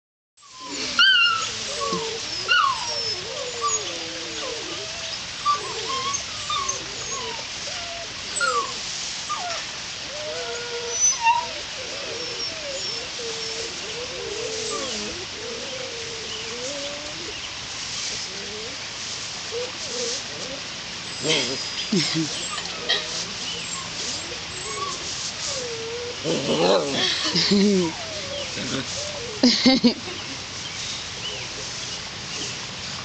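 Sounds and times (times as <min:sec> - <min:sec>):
puppy whining: 0:00.4 - 0:17.4, 0:19.5 - 0:29.5.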